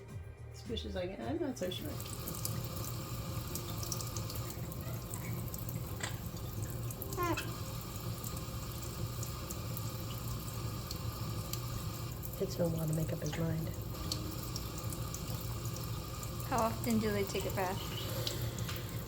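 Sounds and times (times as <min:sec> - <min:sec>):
tap water running into sink: 0:01.7 - 0:19.0.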